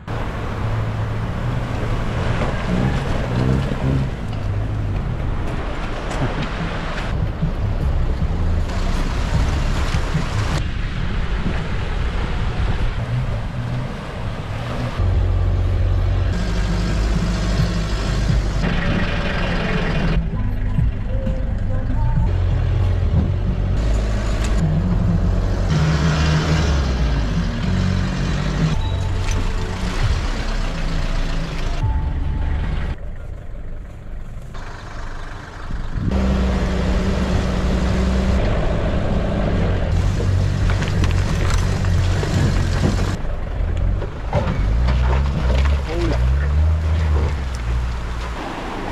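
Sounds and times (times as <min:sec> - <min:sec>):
vehicle engine running: 0:00.0 - 0:10.7, 0:12.8 - 0:48.9.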